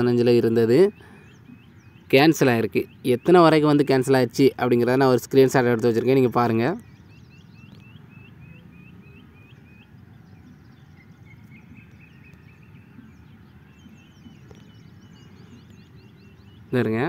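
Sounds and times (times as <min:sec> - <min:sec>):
bird hooked chirp: 0:00.0 - 0:17.0
faint birdsong: 0:00.0 - 0:17.0.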